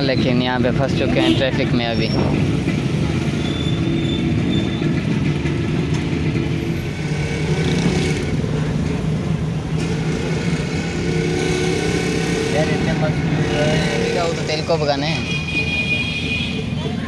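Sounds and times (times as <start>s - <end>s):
car engine and traffic rumble: 0.0s - 17.0s.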